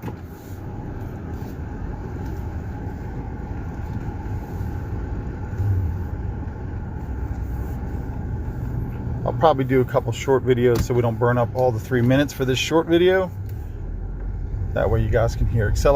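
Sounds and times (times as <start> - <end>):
car engine rumble from inside cabin: 0.0 - 15.9.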